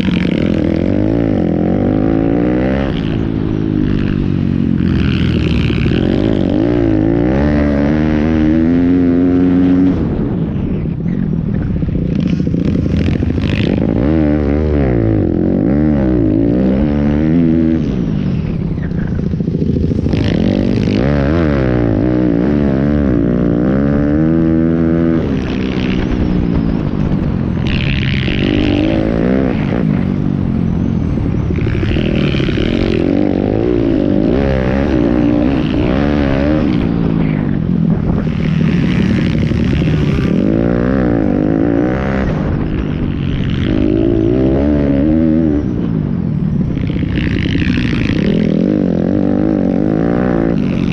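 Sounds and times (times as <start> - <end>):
small motorbike engines revving: 0.0 - 50.9.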